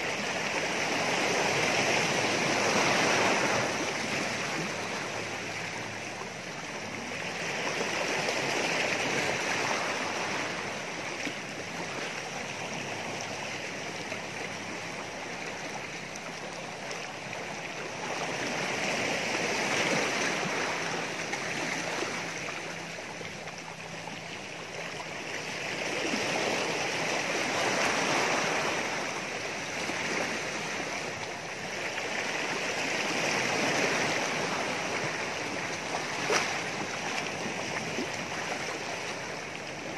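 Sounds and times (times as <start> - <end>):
waves washing against rocky shore: 0.0 - 39.9.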